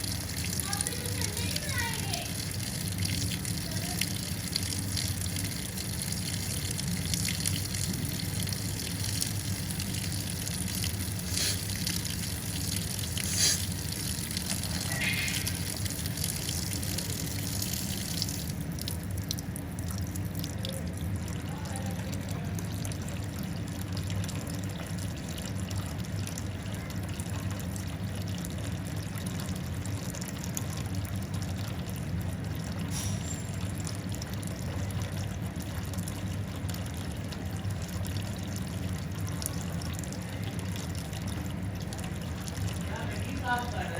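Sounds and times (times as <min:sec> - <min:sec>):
tap water running: 0:00.0 - 0:43.9.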